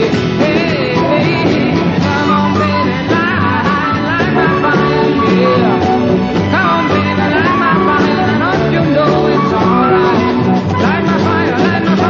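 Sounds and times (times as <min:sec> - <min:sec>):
live rock band with guitar: 0:00.0 - 0:12.0.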